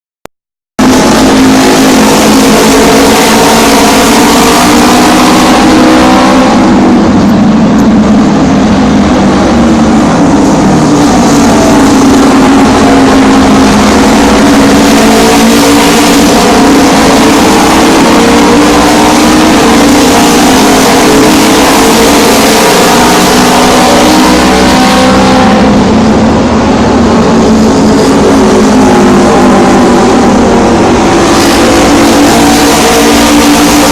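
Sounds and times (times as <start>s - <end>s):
racing motorcycle engines: 0.8s - 33.9s.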